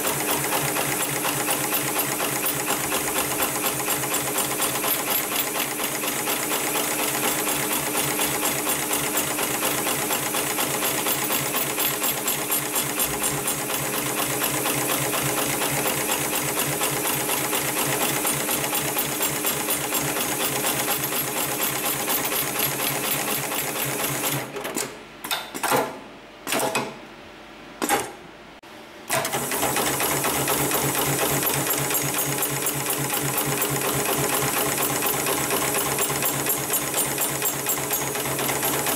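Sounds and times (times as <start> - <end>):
sewing machine stitching: 0.0 - 24.9, 29.1 - 38.9.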